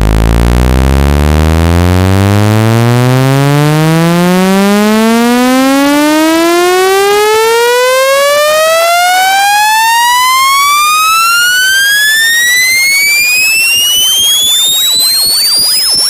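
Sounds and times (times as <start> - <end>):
rising electronic tone sweep: 0.0 - 16.0.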